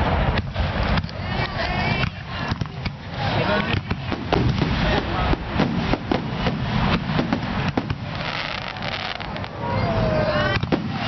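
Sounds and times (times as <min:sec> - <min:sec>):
continuous low rumble: 0:00.0 - 0:11.0
firework shells bursting: 0:00.3 - 0:09.6.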